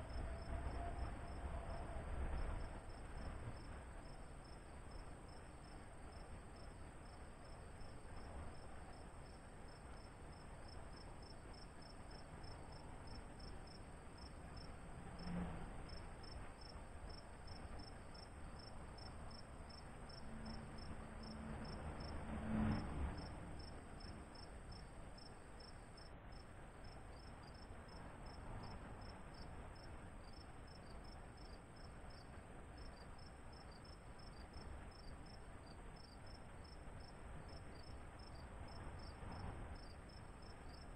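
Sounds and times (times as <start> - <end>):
insects chirping: 0.0 - 15.3, 23.2 - 40.9.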